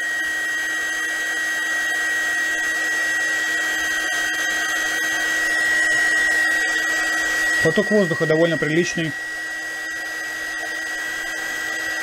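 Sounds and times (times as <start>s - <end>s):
high fan motor whine: 0.0s - 12.0s
heat gun air rushing: 1.5s - 12.0s.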